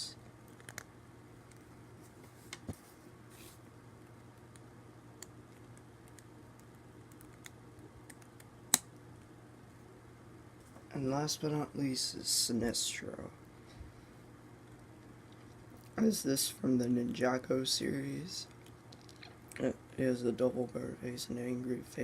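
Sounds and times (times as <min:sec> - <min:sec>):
low room tone hum: 0:00.0 - 0:22.0.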